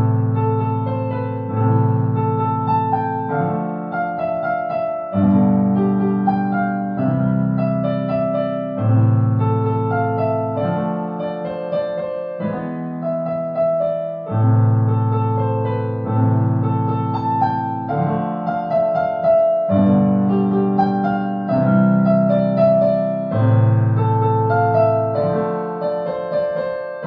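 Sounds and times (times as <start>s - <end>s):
piano bass chords: 0.0s - 27.0s
solo piano melody: 0.0s - 27.0s.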